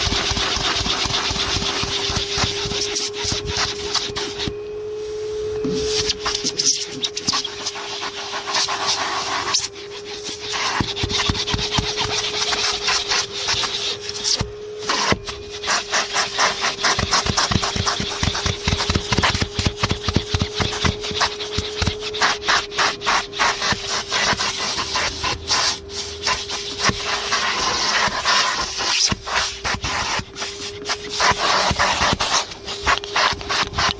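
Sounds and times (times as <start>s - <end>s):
vacuum nozzle scraping and knocking: 0.0s - 4.6s, 5.5s - 33.9s
vacuum cleaner motor whine: 0.0s - 33.9s.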